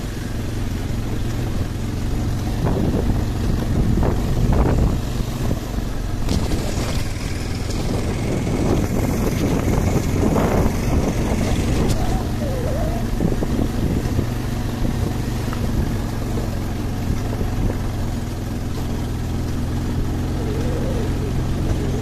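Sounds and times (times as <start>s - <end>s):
motorcycle engine running: 0.0s - 22.0s
wind rumbling on microphone: 0.8s - 22.0s.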